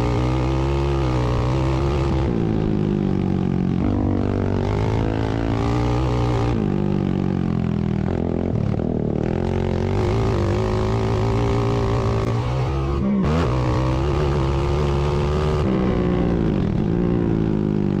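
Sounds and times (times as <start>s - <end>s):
atv engines racing: 0.0s - 18.0s.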